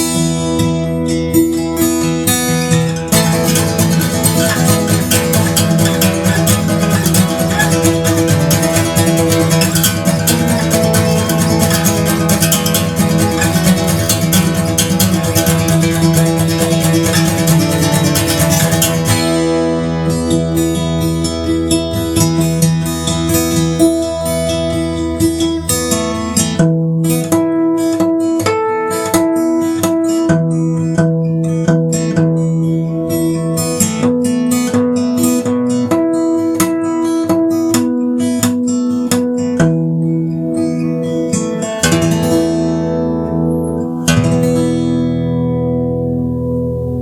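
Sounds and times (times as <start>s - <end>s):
acoustic guitar melody: 0.0s - 47.0s
strummed guitar chords: 0.0s - 47.0s.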